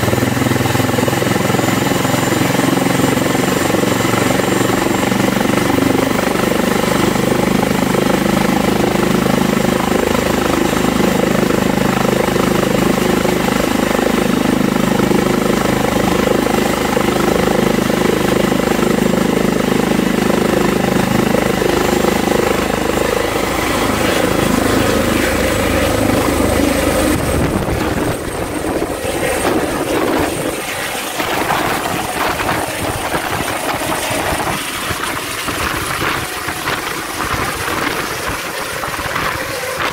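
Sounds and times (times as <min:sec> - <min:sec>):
helicopter turbines and rotor: 0:00.0 - 0:39.9.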